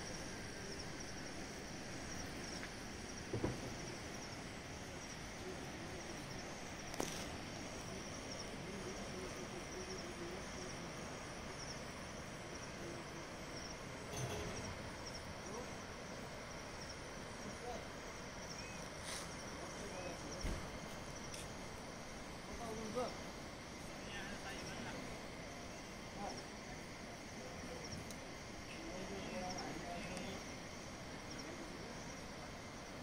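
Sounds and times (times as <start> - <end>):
insects chirping: 0.0 - 33.0
soft hiss: 0.0 - 33.0.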